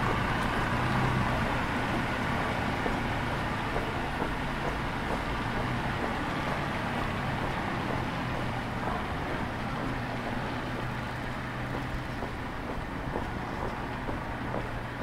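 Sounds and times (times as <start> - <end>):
car driving on wet cobbles: 0.0 - 15.0
car engine humming: 0.0 - 15.0.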